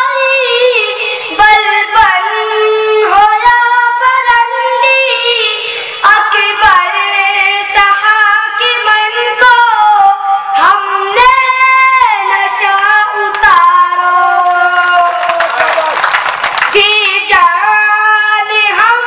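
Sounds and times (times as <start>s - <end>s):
boy singing into microphone: 0.0s - 15.1s, 16.7s - 19.0s.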